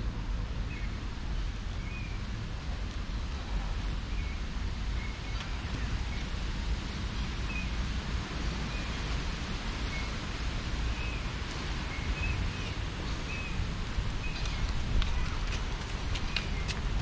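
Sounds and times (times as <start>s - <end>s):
wind rumbling on microphone: 0.0s - 17.0s
wind rustling trees: 0.0s - 17.0s.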